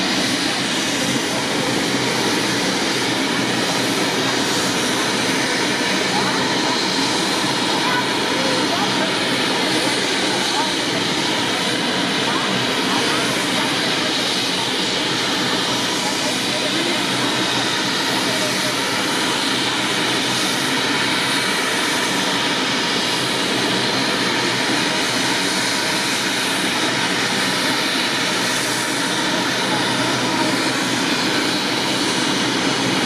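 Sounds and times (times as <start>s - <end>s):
helicopter turbine and rotor: 0.0s - 33.0s.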